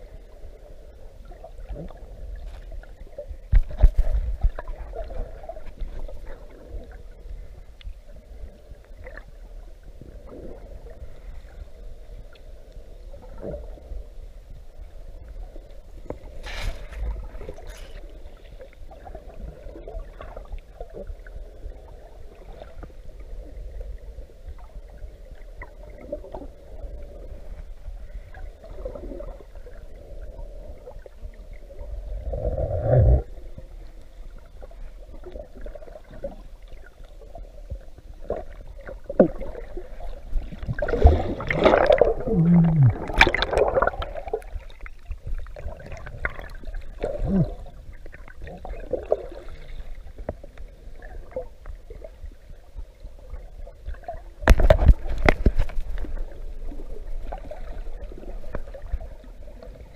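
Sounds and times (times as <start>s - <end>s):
muffled underwater water sloshing: 0.0s - 59.9s.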